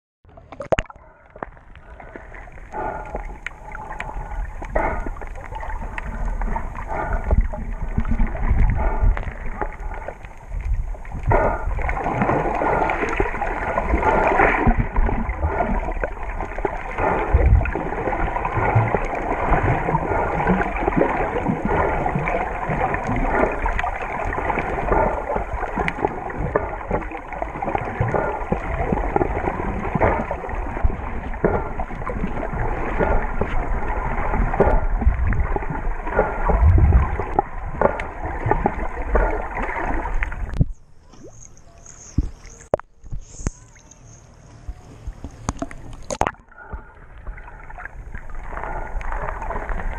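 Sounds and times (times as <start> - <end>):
bubbling crackles and splashes: 0.2 - 49.9
underwater sloshing and gurgling: 0.3 - 49.9.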